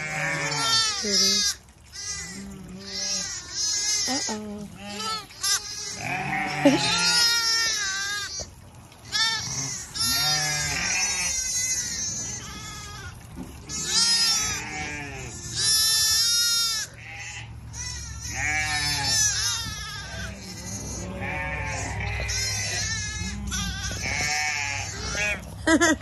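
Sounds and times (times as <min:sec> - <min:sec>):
sheep bleating: 0:00.0 - 0:08.5, 0:09.1 - 0:25.5.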